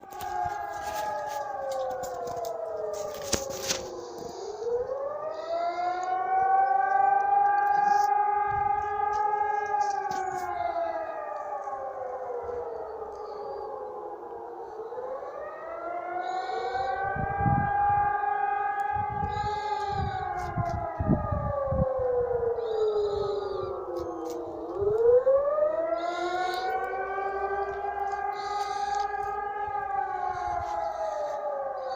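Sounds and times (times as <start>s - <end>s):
siren wailing: 0.0s - 31.9s.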